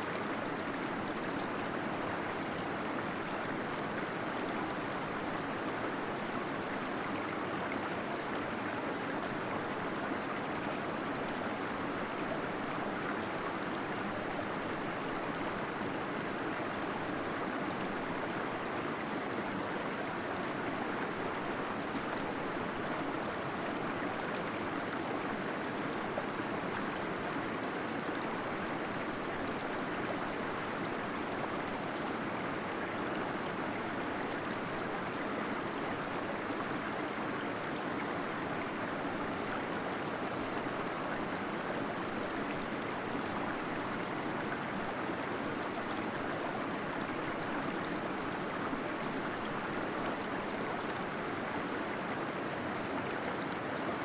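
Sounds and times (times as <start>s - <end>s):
small waterfall rushing and gurgling: 0.0s - 54.0s.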